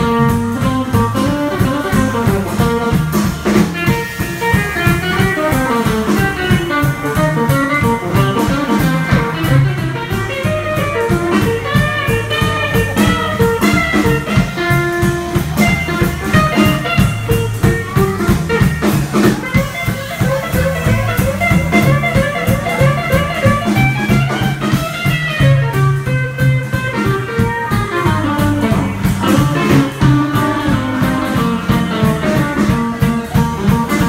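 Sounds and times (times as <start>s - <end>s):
drum kit: 0.0s - 34.0s
electric guitar: 0.0s - 34.0s
walking double bass: 0.0s - 34.0s.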